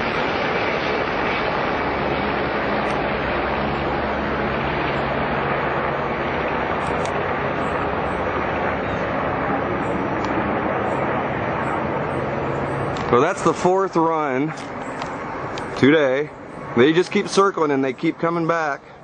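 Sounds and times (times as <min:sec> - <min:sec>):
helicopter flying overhead: 0:00.0 - 0:19.0.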